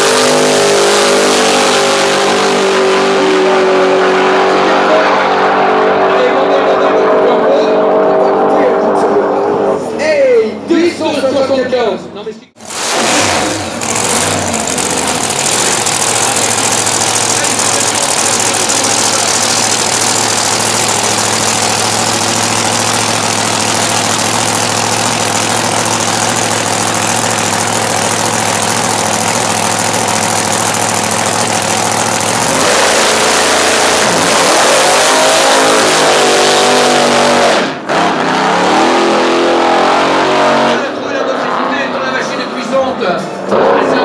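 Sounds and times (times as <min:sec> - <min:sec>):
drag car engine idling and revving: 0:00.0 - 0:10.0, 0:12.6 - 0:44.0.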